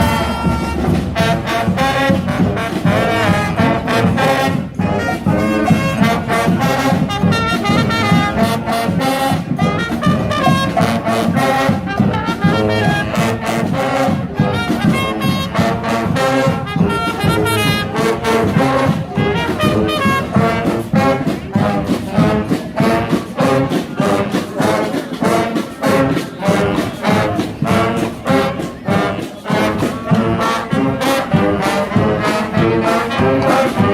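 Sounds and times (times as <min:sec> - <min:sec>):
brass horns playing: 0:00.0 - 0:33.9
drums keeping a beat: 0:00.0 - 0:33.9.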